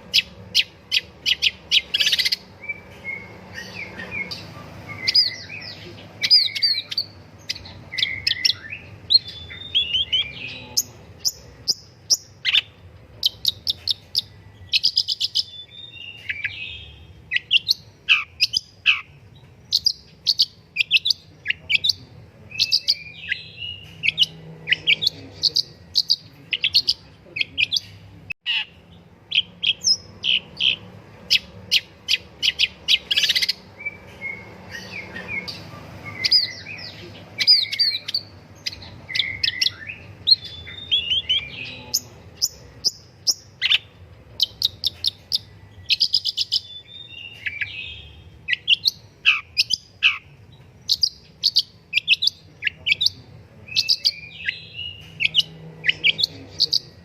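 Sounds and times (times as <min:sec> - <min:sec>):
bird chirping song: 0:00.0 - 0:57.0.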